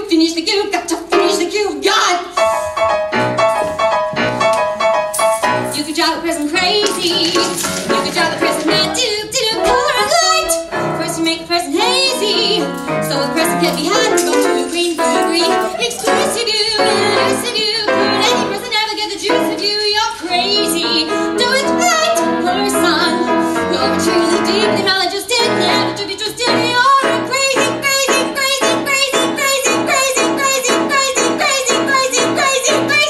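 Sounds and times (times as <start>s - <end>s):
woman singing with vibrato: 0.0s - 2.3s, 5.6s - 33.0s
piano accompaniment: 1.0s - 33.0s.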